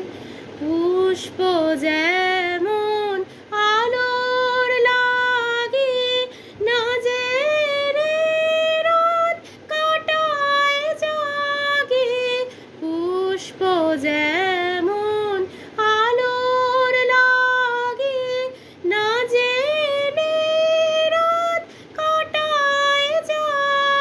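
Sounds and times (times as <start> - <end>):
woman singing solo: 0.0 - 24.0.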